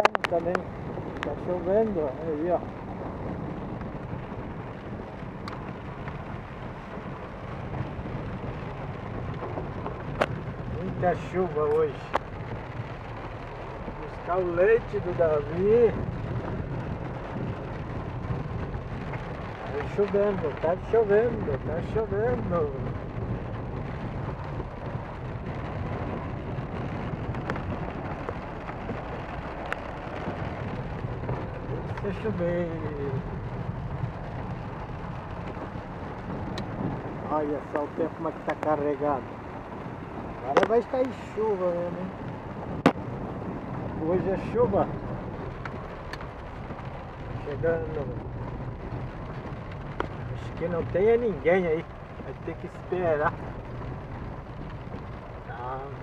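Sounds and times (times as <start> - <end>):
engine and tyres rumbling: 0.0 - 56.0
rain on car: 0.0 - 56.0.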